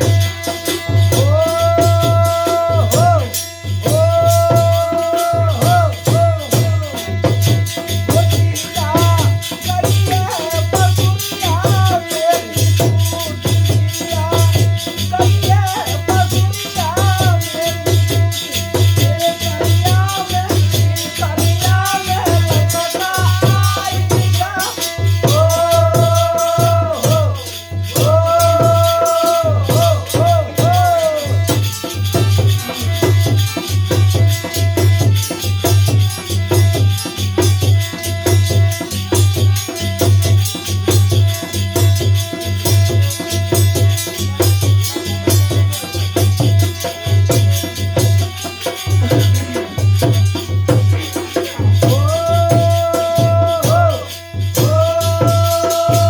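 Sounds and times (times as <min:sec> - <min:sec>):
fast dense percussion: 0:00.0 - 0:56.0
folk melody with held notes: 0:00.0 - 0:56.0.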